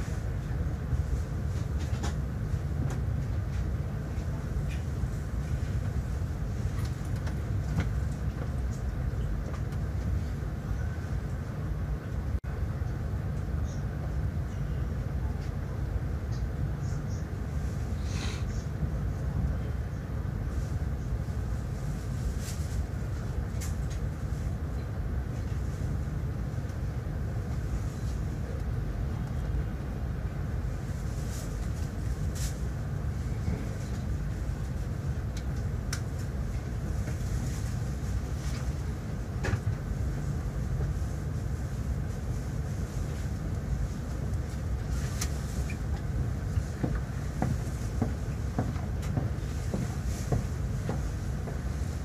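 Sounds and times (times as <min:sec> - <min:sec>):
train cabin low rumble: 0:00.0 - 0:52.0.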